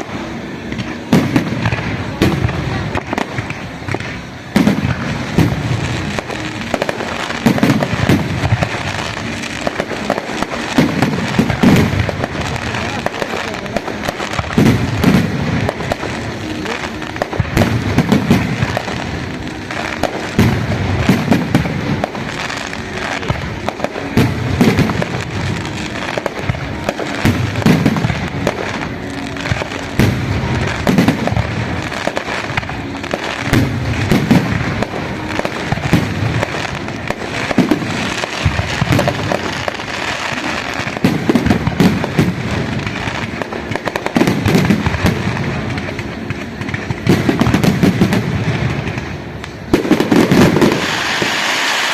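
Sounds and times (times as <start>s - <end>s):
firecrackers popping: 0.0s - 51.9s.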